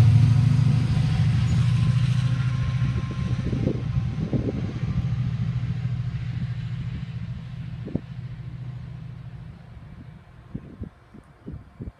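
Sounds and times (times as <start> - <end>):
diesel locomotive engine drone: 0.0 - 11.9.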